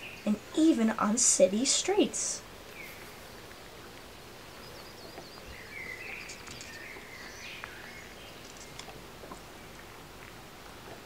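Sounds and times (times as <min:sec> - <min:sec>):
faint bird chirping: 0:00.0 - 0:09.9.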